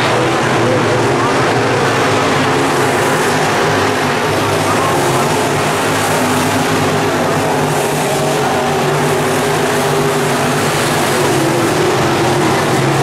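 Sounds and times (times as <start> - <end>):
race car engines: 0.0 - 13.0.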